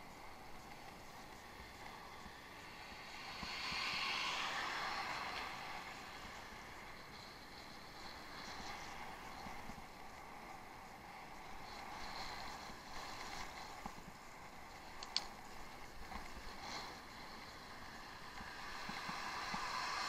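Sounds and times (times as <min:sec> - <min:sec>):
bicycle tyre noise off-road: 0:00.0 - 0:20.0
wind rushing: 0:01.7 - 0:20.0.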